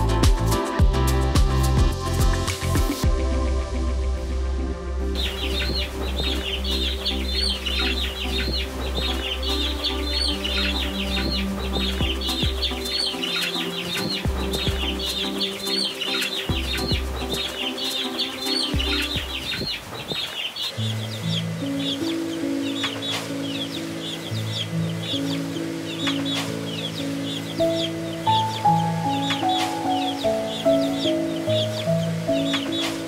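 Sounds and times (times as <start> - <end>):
background music: 0.0 - 33.0
chicks peeping: 5.2 - 33.0.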